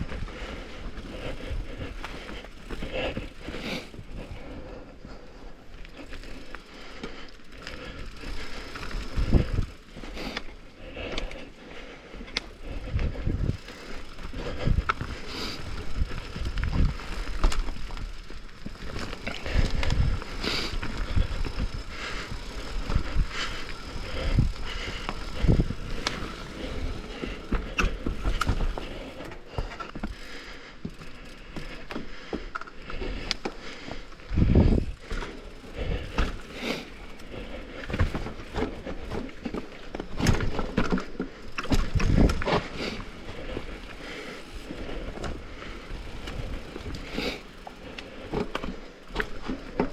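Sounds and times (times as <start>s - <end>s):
bike tyres on dirt and rock: 0.0s - 49.9s.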